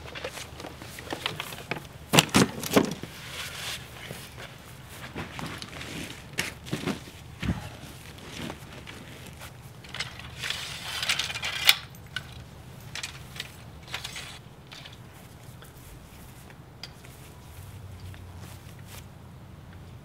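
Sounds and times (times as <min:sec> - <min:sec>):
easel rustling: 0:00.0 - 0:19.1.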